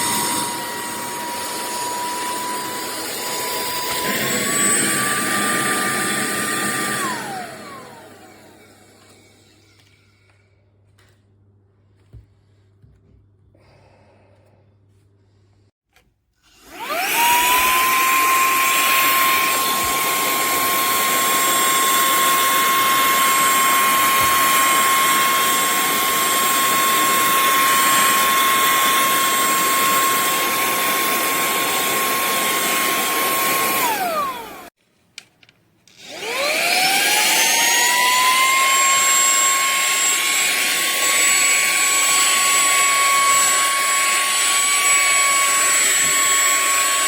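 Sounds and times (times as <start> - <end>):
handheld vacuum cleaner whining: 0.0 - 10.4, 16.4 - 34.8, 35.8 - 47.0.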